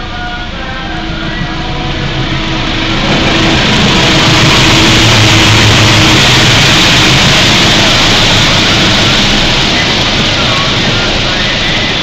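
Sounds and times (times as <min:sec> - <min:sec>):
locomotive engine drone: 0:00.0 - 0:12.0.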